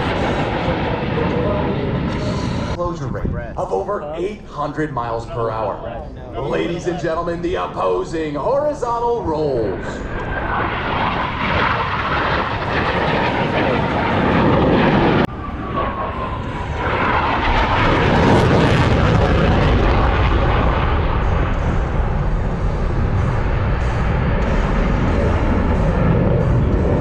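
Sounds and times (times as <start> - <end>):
falling engine whine: 0.0 - 27.0
jets roaring past: 0.0 - 27.0.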